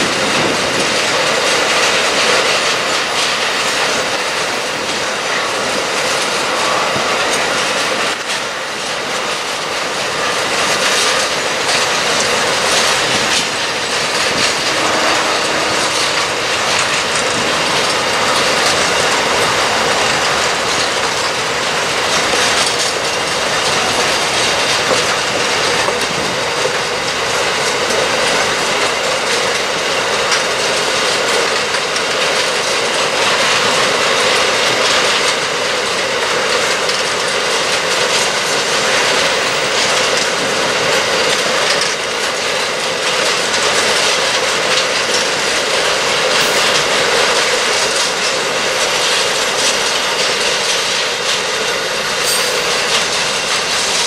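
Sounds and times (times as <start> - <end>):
steel wheels rolling on rails: 0.0 - 54.0
wheels clicking over track: 0.0 - 54.0.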